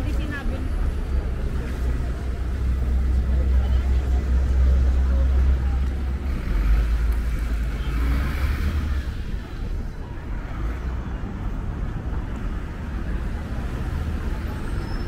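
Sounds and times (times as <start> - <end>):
rumble of passing cars and bus: 0.0 - 15.0.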